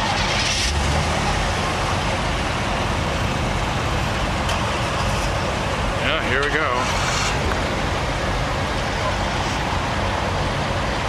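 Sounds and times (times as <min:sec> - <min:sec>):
car engines rumbling at low speed: 0:00.0 - 0:11.0.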